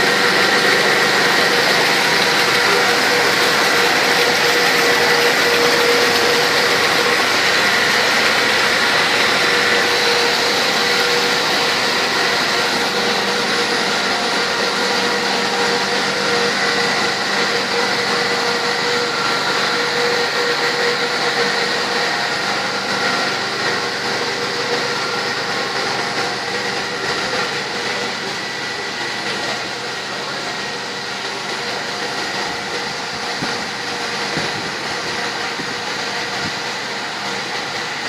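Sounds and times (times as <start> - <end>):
constant whining tones: 0.0 - 38.0
industrial machine hum and hiss: 0.0 - 38.0.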